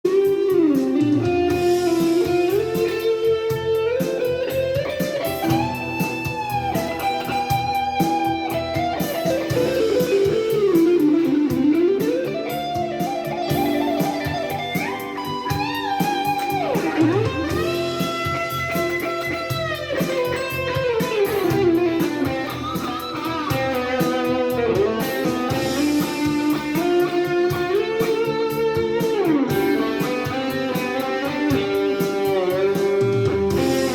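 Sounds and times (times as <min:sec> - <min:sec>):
bluesy electric guitar lead: 0:00.0 - 0:33.9.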